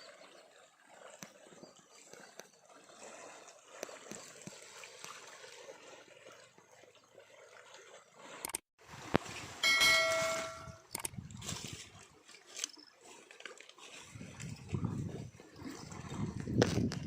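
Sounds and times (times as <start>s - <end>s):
river water trickling: 0.0s - 17.0s.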